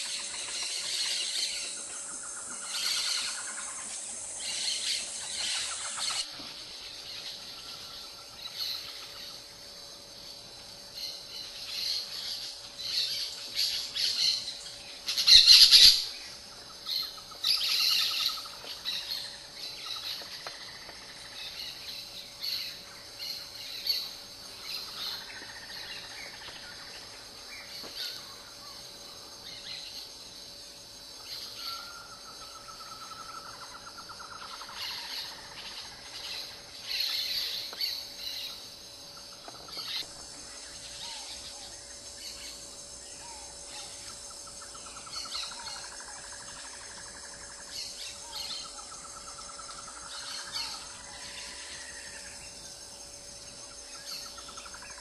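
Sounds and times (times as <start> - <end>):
birds chirping and calling: 0.0 - 9.4, 11.0 - 28.8, 31.2 - 52.6.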